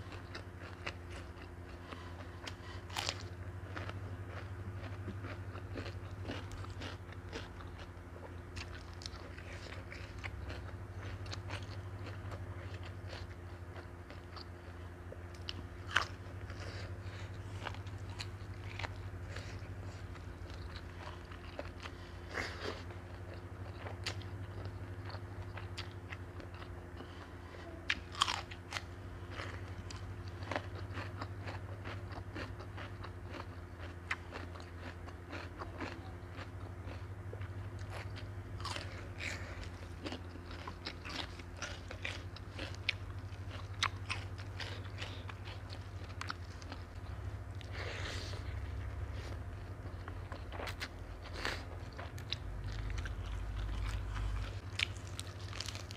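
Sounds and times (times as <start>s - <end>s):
chewing with mouth clicks: 0.0s - 55.9s
crunching raw vegetables: 0.0s - 55.9s
steady low hum: 0.0s - 55.9s.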